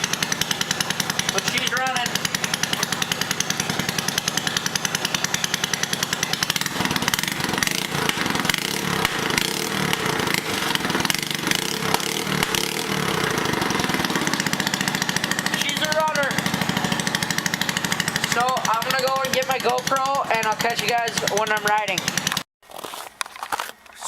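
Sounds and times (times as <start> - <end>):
small engine idling putter: 0.0 - 24.0.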